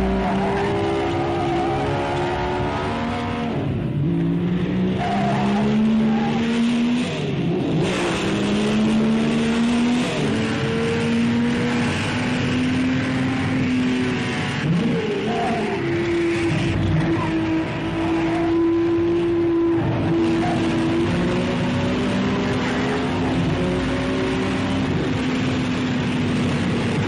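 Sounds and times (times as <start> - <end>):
racing car engine changing gear: 0.0 - 27.0.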